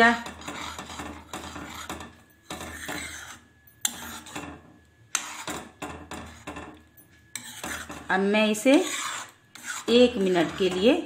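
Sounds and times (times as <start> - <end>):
metal spoon scraping a pan: 0.0 - 11.0.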